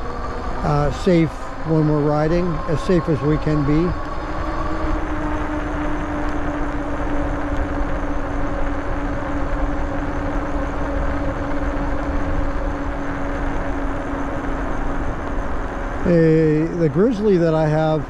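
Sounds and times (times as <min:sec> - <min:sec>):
electric bike drive whine: 0:00.0 - 0:18.0
road noise: 0:00.0 - 0:18.0
rushing wind: 0:00.0 - 0:18.0.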